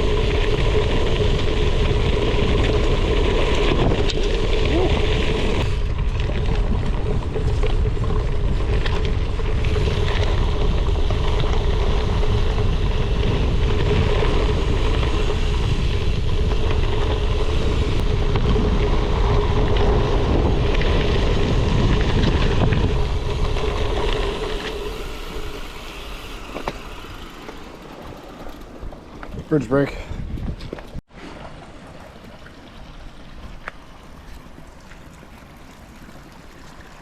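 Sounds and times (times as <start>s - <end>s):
wind buffeting microphone: 0.0s - 31.0s
bike rattles and clicks: 0.0s - 37.0s
tyres rumbling on gravel trail: 0.0s - 37.0s.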